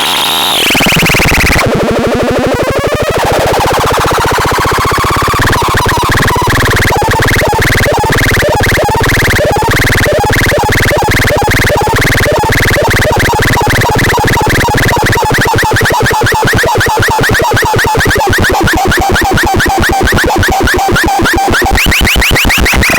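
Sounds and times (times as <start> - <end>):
electronic chirps and blips: 0.0 - 22.9
harsh buzzy synth drone: 0.0 - 22.9.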